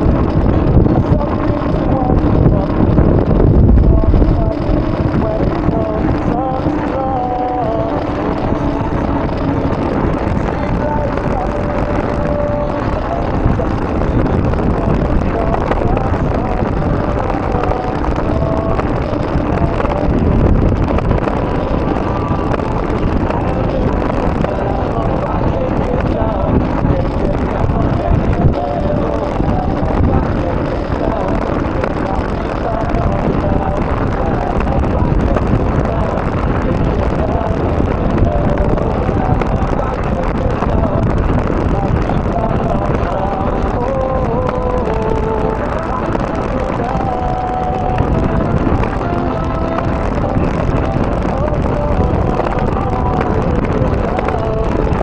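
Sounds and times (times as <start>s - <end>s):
bicycle rolling noise: 0.0s - 55.0s
tyre and road noise: 0.0s - 55.0s
wind buffeting microphone: 0.0s - 55.0s.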